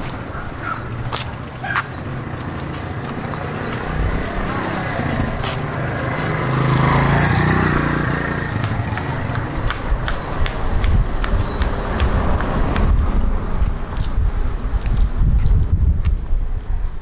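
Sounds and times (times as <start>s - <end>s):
motor vehicle passing: 0.0s - 14.9s
footsteps on pavement: 0.0s - 17.0s.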